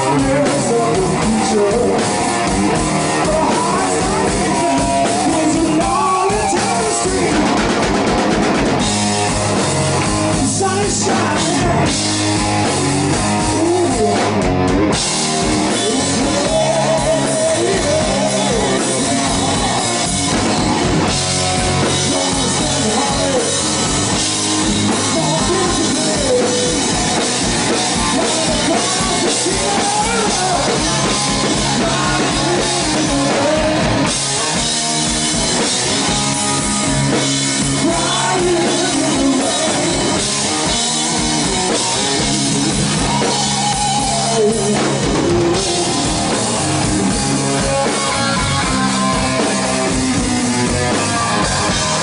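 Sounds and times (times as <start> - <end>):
hard rock band playing live: 0.0 - 52.0.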